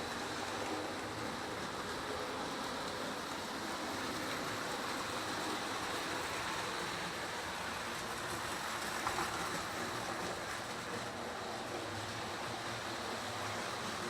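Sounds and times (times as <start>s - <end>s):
model trains whirring on track: 0.0s - 14.0s.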